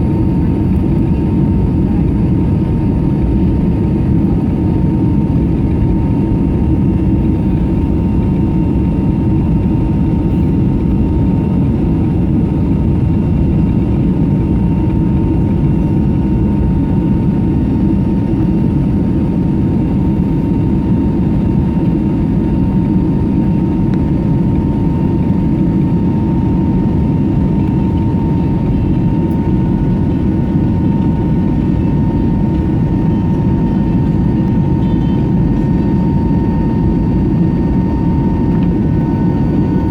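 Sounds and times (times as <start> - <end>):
aircraft cabin rumble: 0.0 - 39.9
high engine whine: 0.0 - 39.9.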